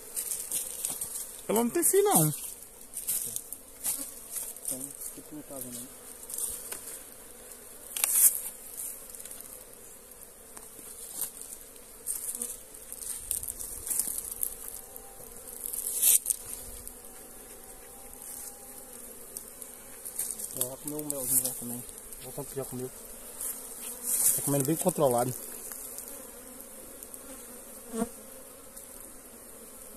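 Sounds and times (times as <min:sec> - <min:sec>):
honey bees buzzing: 0:00.0 - 0:29.9.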